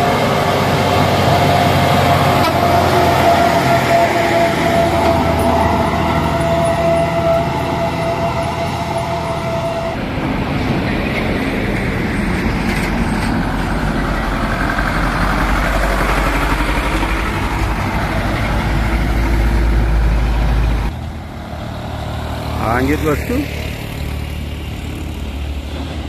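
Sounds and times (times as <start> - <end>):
diesel truck engine passing: 0.0 - 26.0.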